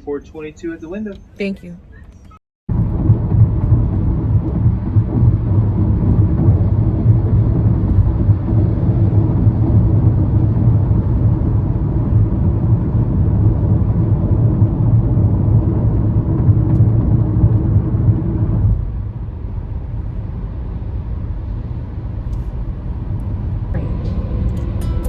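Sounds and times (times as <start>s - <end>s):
car running heard from cabin: 0.0s - 25.0s.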